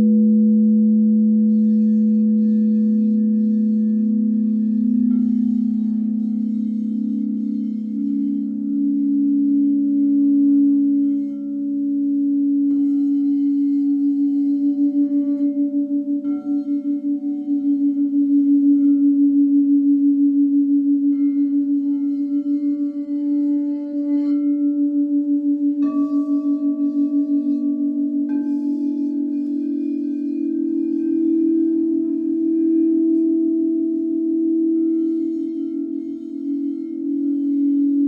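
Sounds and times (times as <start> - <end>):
crystal singing bowls ringing: 0.0 - 38.0.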